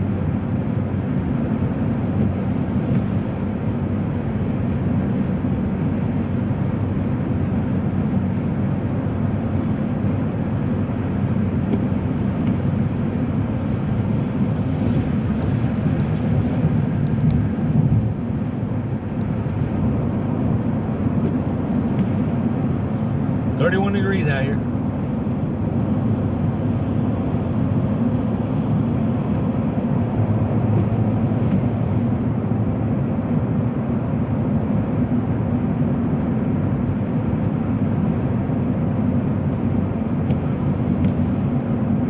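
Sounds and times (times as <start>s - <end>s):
car interior road rumble: 0.0s - 42.0s.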